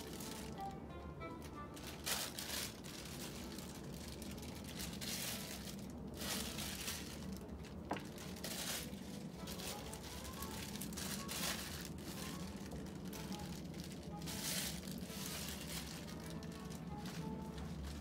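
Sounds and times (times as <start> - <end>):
plastic wrapping crinkling: 0.0 - 0.8, 1.4 - 18.0.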